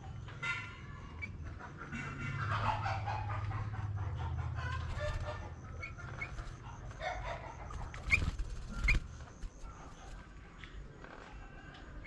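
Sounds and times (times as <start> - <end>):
chickens clucking: 0.0 - 10.8.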